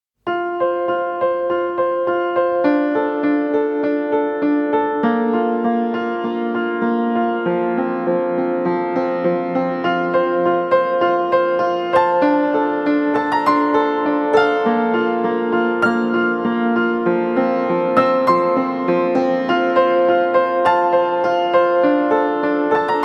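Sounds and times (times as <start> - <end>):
gentle keyboard melody: 0.3 - 23.0.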